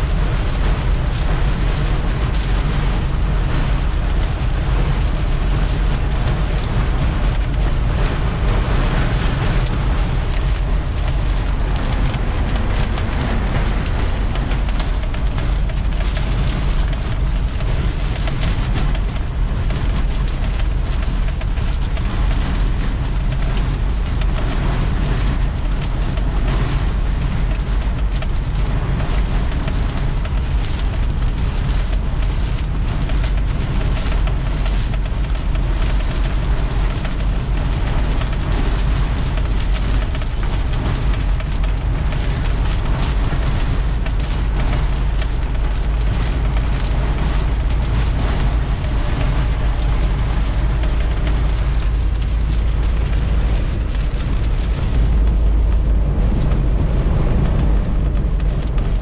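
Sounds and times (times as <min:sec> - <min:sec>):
rain on a vehicle: 0:00.0 - 0:59.0
road and engine rumble: 0:00.0 - 0:59.0.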